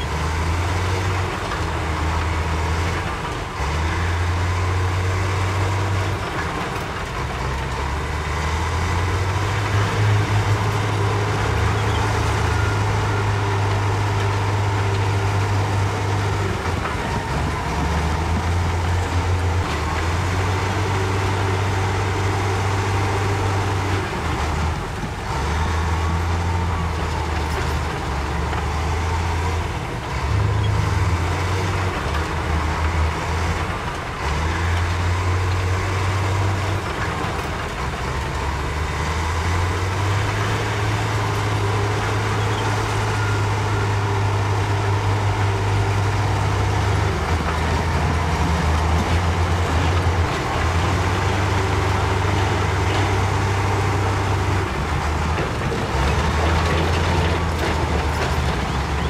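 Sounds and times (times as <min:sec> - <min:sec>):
diesel truck engines running: 0:00.0 - 0:59.0.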